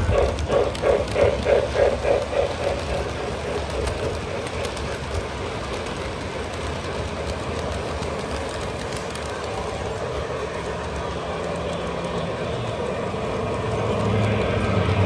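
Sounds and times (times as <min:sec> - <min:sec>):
model train wheels on rail: 0:00.0 - 0:15.0.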